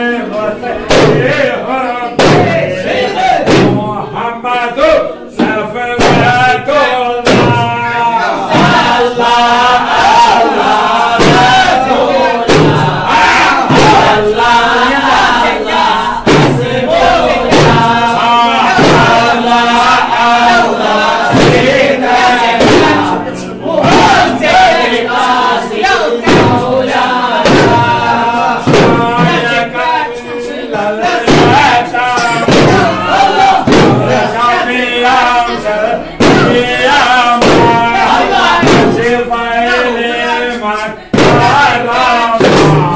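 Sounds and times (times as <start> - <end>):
men chanting together: 0.0 - 42.9
frame drums beating: 0.8 - 4.3, 5.3 - 42.9.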